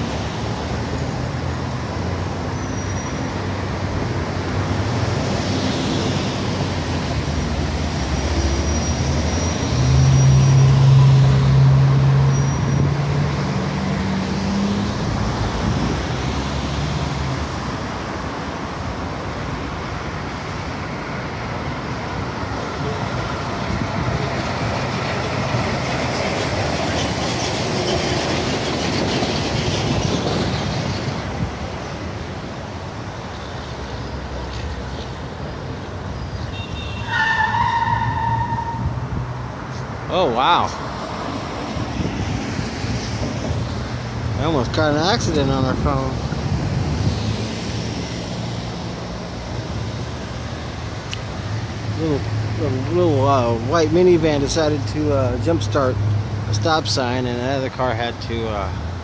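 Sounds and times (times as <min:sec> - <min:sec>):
passing street traffic: 0:00.0 - 0:59.0.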